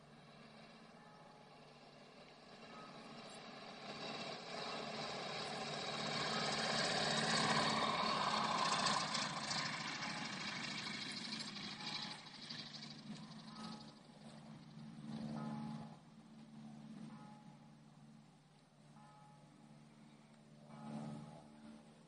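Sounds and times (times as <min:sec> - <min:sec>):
light aircraft engine and propeller: 0:00.0 - 0:22.0.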